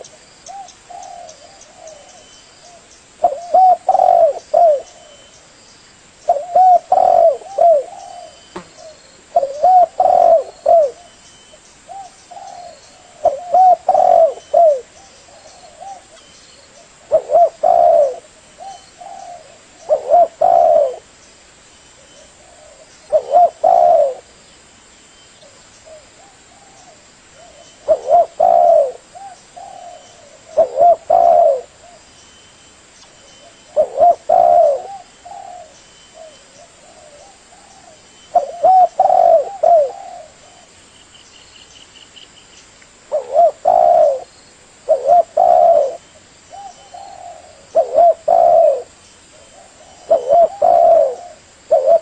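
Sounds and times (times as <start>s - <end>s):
dove cooing: 0.0s - 5.3s, 6.2s - 11.2s, 11.9s - 16.2s, 16.8s - 21.1s, 22.0s - 24.3s, 25.4s - 32.0s, 33.4s - 40.8s, 43.1s - 52.0s.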